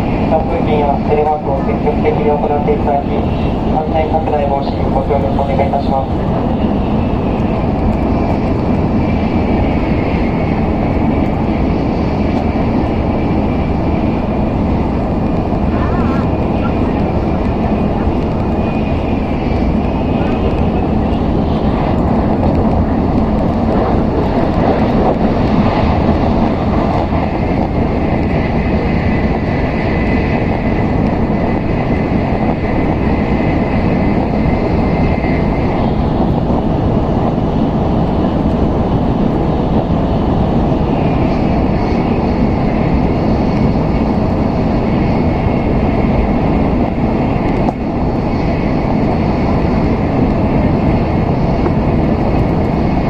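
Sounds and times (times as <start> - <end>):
train running noise in cabin: 0.0 - 53.0.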